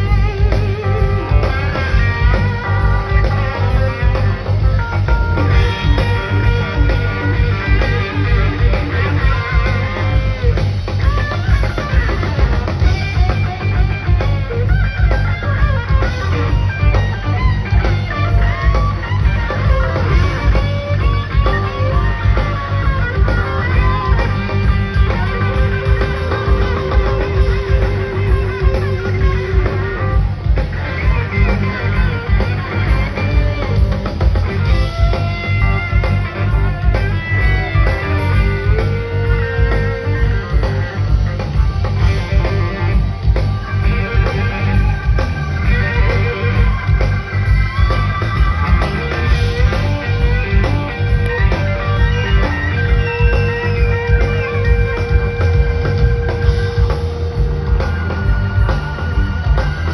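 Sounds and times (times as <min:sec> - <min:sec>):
drum and bass groove: 0:00.0 - 0:59.9
electric guitar lead: 0:00.0 - 0:59.9.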